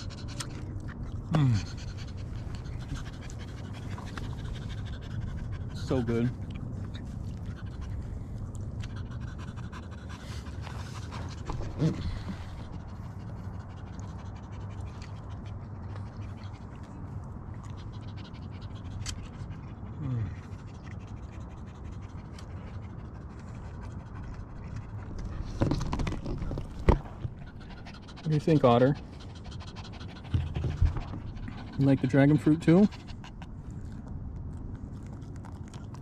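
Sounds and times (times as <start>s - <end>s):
dog panting: 0.0s - 36.0s.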